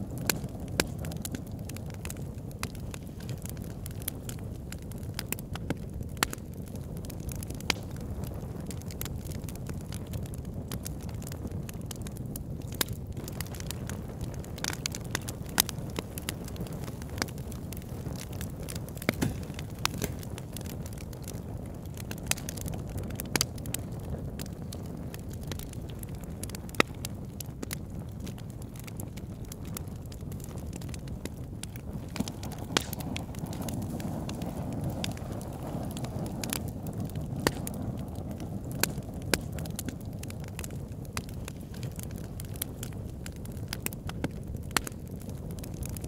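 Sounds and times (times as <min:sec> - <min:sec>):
fire burning with crackles: 0:00.0 - 0:46.0
fire pops: 0:00.0 - 0:46.0.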